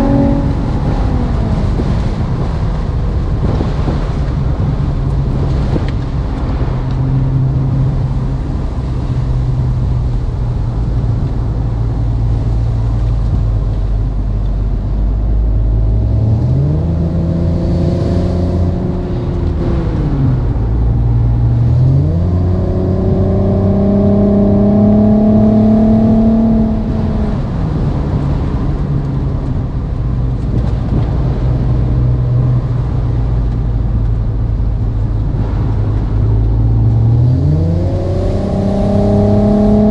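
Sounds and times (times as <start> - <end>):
synthesized sports car engine: 0.0 - 39.9.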